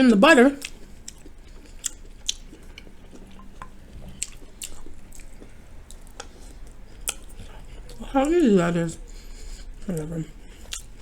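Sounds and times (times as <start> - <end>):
chewing mouth clicks and smacks: 0.6 - 8.1, 9.1 - 11.0.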